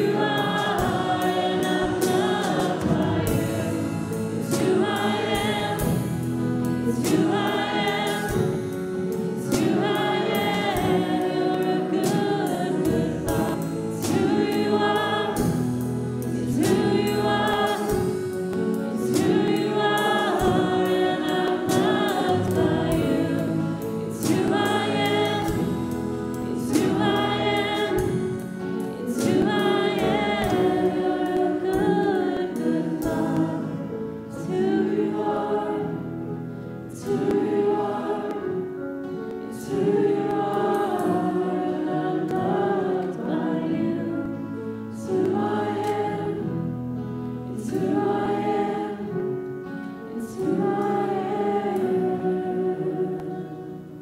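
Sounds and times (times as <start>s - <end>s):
group singing worship song: 0.0s - 54.0s
instrumental accompaniment: 0.0s - 54.0s.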